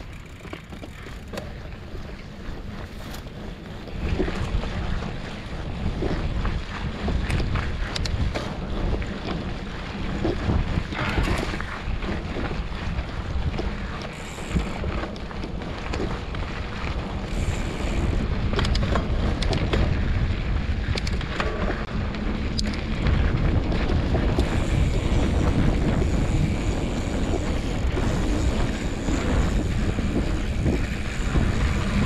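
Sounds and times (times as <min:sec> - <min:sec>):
bike knocks and rattles: 0:00.0 - 0:32.0
wind rumbling on microphone: 0:00.0 - 0:32.0.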